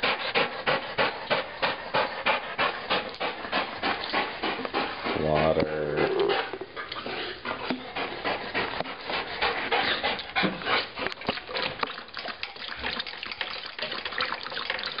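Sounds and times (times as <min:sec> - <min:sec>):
dog panting: 0:00.0 - 0:12.6.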